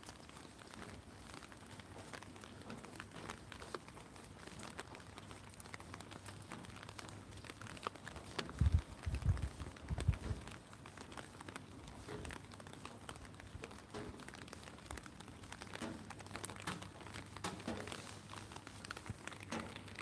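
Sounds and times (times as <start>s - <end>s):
footsteps on wet pavement: 0.0s - 20.0s
rain pattering on umbrella: 0.0s - 20.0s.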